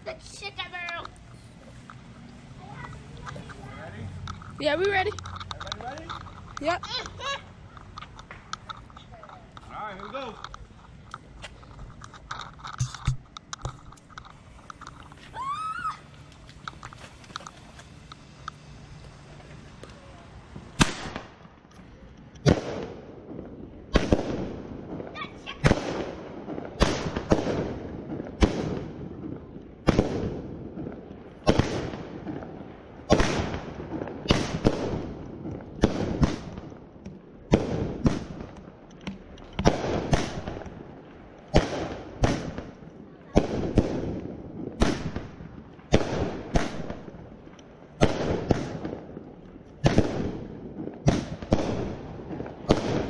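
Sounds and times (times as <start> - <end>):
firework bangs: 0.0 - 53.0.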